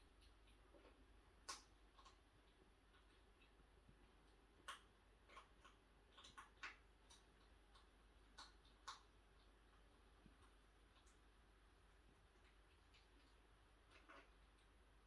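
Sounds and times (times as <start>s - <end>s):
hedgehog eating crunching: 0.0s - 15.0s
low room hum: 0.0s - 15.0s.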